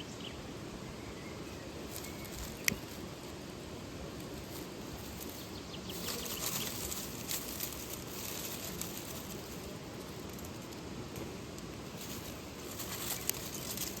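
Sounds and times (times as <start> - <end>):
rustling hiss: 0.0 - 14.0
sharp crackles: 1.9 - 3.4, 4.1 - 14.0.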